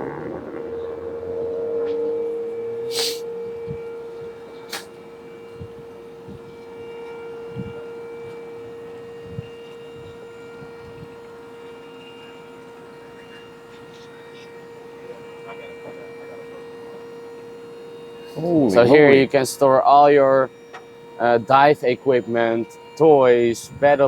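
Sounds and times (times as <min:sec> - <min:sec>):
powered lift mechanism humming: 0:00.0 - 0:23.8.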